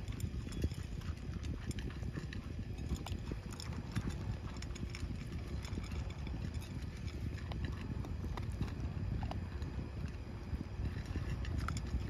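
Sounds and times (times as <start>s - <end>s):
dogs crunching dry food: 0.0s - 12.0s
low rumble: 0.0s - 12.0s.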